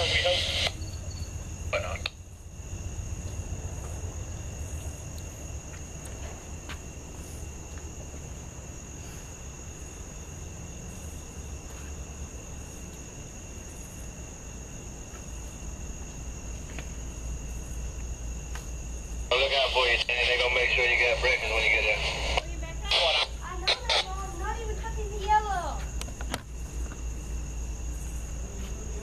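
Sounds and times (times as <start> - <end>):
crickets trilling: 0.0 - 29.0.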